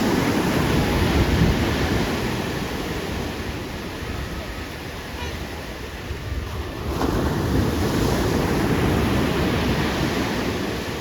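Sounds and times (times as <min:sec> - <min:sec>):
wave breaking and washing in: 0:00.0 - 0:11.0
wind rumbling on microphone: 0:00.0 - 0:11.0.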